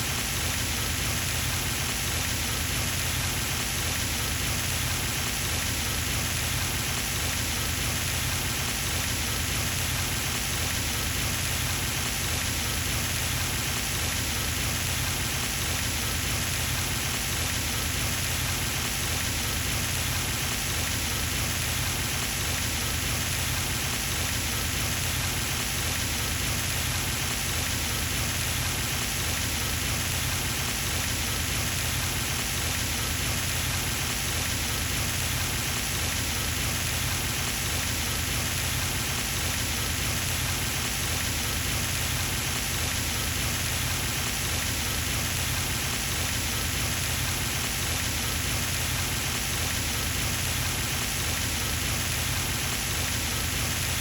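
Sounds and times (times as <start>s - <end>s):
fountain water splashing: 0.1s - 54.0s.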